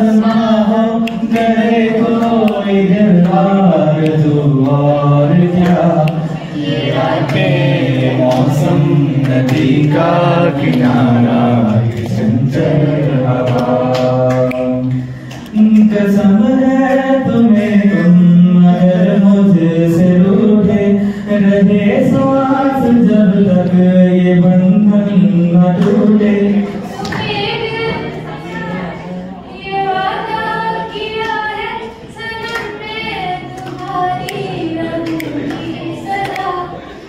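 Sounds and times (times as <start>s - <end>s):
amplified voices singing: 0.0s - 37.0s.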